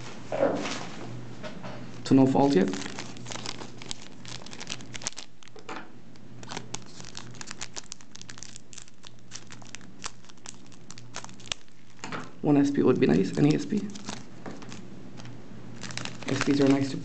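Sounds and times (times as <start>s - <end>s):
trading cards being handled: 2.4s - 5.6s, 6.4s - 17.0s
foil wrappers crinkling: 2.4s - 17.0s.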